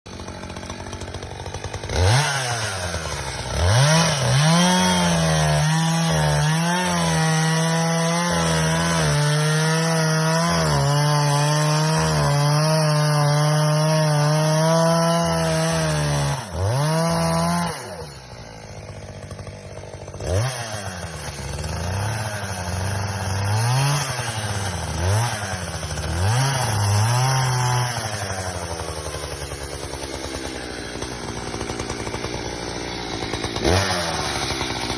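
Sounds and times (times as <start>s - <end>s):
chainsaw idling: 0.1s - 34.9s
chainsaw revving and cutting wood: 0.1s - 34.9s.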